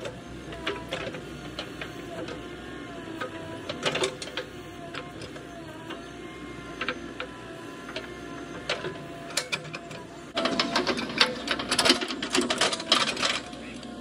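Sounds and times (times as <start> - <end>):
diesel machinery running: 0.0 - 14.0.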